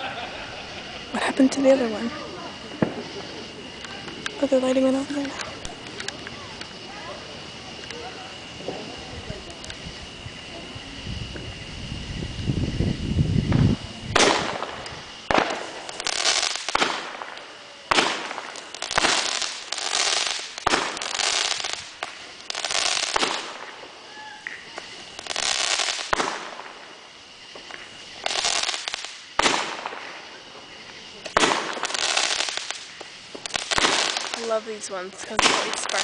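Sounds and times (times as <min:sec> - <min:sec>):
fireworks bangs: 0:00.0 - 0:36.0
fireworks crackling sizzle: 0:00.0 - 0:36.0.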